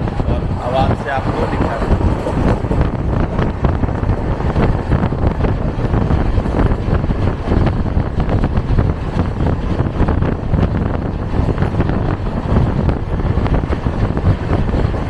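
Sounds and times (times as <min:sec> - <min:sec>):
train wheels rumbling on track: 0:00.0 - 0:15.0
wind buffeting microphone: 0:00.0 - 0:15.0.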